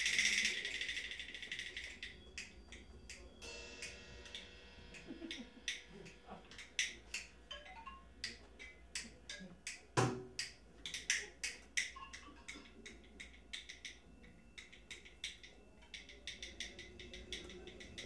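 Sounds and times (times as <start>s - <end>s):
hand percussion clicking strikes: 0.0s - 18.0s.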